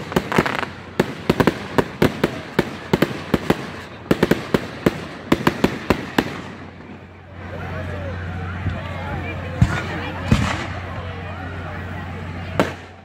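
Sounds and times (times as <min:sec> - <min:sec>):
fireworks cracking and banging: 0:00.0 - 0:07.6, 0:08.2 - 0:13.0.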